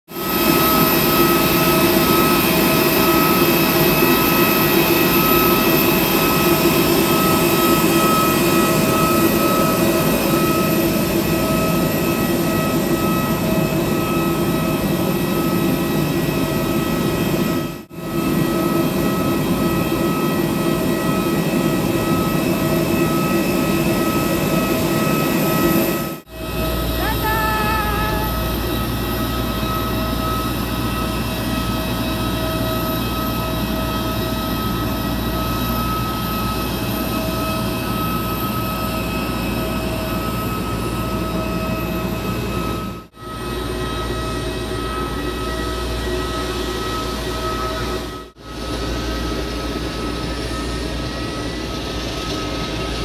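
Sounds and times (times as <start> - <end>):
jet engines running: 0.2 - 53.0.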